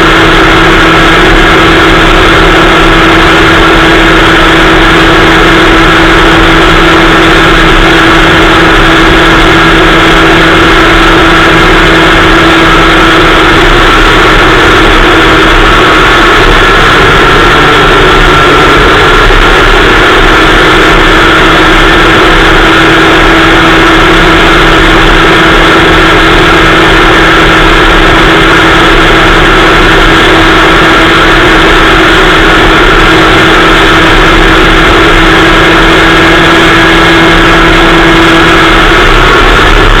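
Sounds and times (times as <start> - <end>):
two-stroke kart engine running: 0.0 - 40.0.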